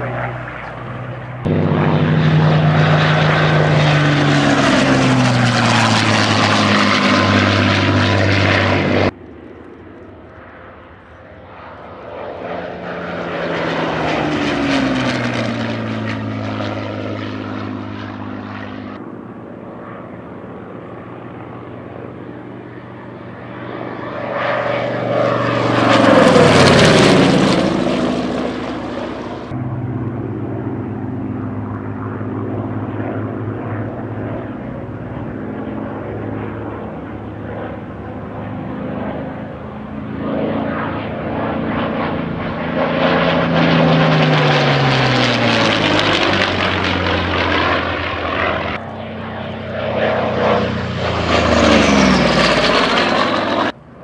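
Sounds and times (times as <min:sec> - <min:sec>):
propeller plane flying by: 0:00.0 - 0:54.0.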